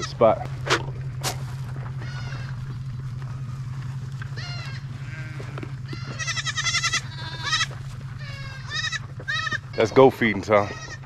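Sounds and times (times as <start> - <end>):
goats bleating: 0.0 - 1.0, 1.8 - 11.0
steady low hum: 0.0 - 11.0.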